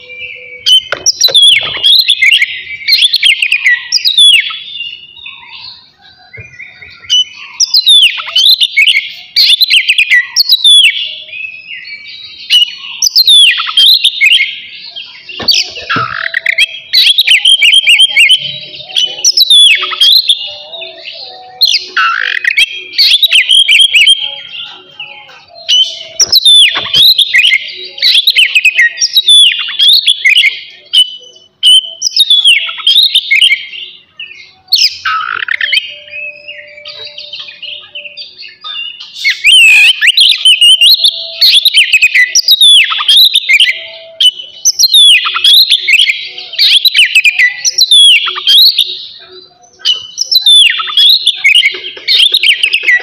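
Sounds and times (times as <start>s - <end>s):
bird singing whistles and trills: 0.0s - 53.0s.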